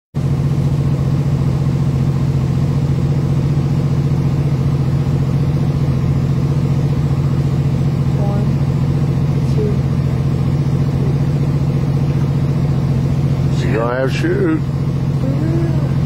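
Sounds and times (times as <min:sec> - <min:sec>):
engine idling: 0:00.2 - 0:16.0.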